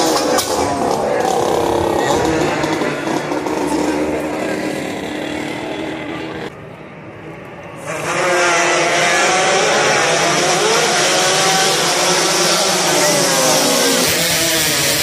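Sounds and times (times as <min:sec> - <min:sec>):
racing motorcycle engines revving: 0:00.0 - 0:06.6, 0:07.8 - 0:15.0.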